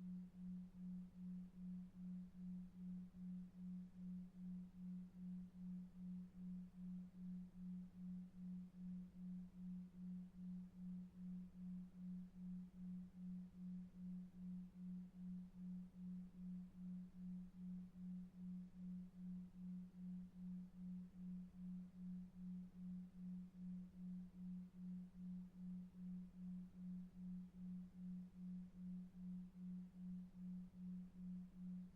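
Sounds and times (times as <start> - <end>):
low pulsing sine tone: 0.0 - 31.9.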